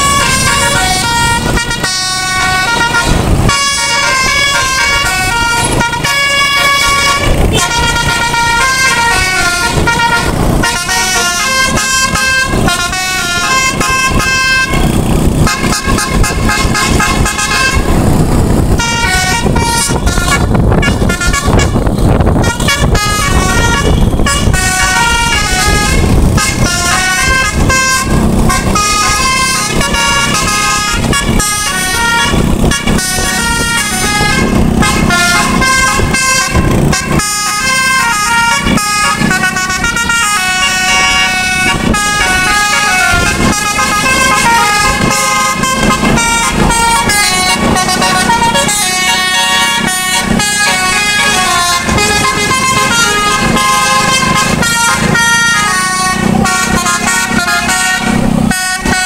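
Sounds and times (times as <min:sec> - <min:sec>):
motor scooter engines: 0:00.0 - 0:59.0
musical air horn melody: 0:00.0 - 0:59.0.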